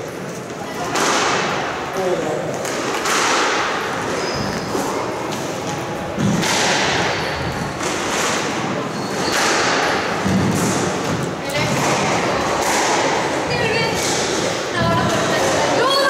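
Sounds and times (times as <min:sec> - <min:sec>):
murmur of voices: 0:00.0 - 0:16.0
squash balls thudding on walls: 0:00.8 - 0:01.8, 0:02.4 - 0:16.0.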